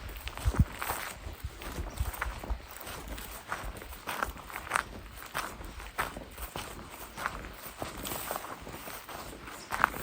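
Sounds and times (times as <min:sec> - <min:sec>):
footsteps crunching on forest floor: 0:00.0 - 0:10.0.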